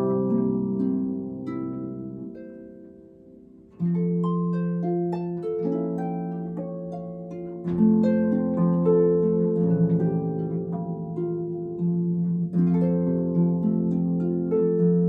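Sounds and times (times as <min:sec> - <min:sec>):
harp playing: 0:00.0 - 0:15.0.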